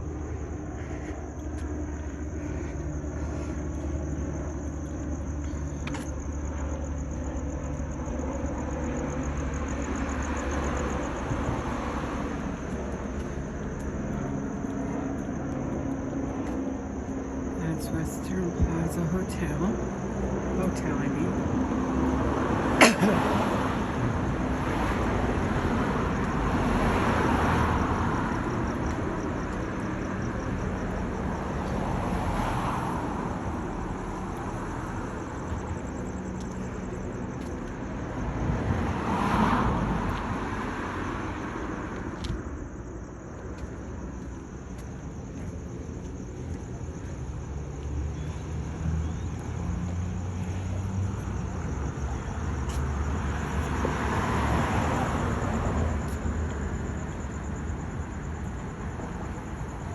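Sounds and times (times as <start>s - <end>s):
cars passing by: 0.0s - 59.9s.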